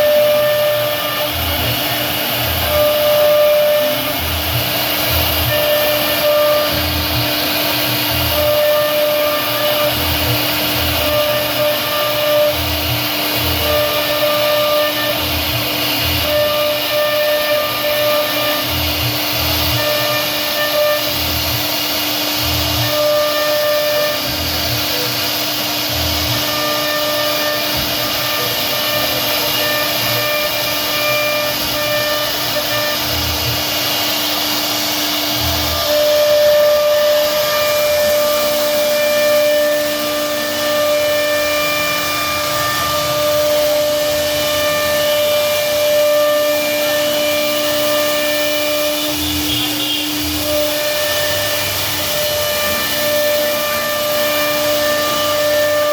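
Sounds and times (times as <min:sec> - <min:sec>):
bit cutting wood: 0:00.0 - 0:55.9
router spindle whine: 0:00.0 - 0:55.9.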